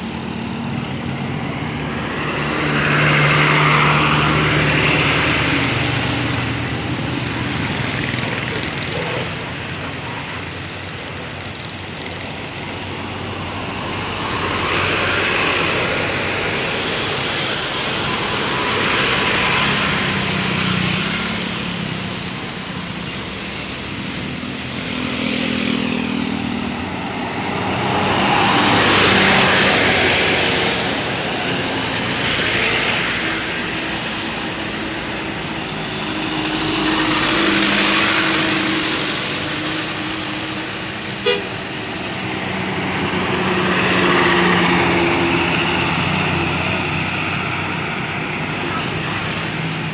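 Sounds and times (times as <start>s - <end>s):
engine hum: 0.0s - 49.9s
vehicles passing: 0.0s - 49.9s.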